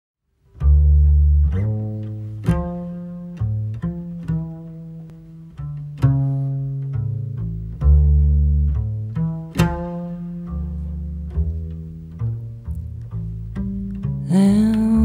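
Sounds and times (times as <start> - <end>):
double bass plucked notes: 0.4 - 15.0.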